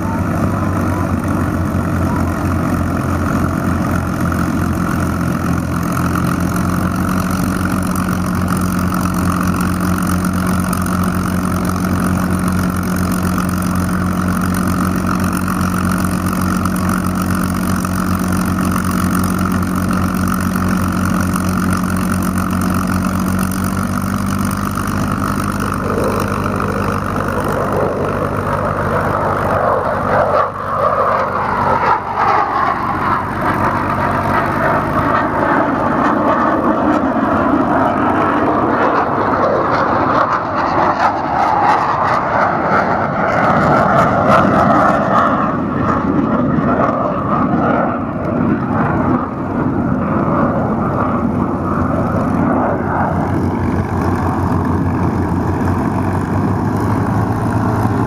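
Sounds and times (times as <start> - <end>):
propeller plane engines idling: 0.0 - 58.0.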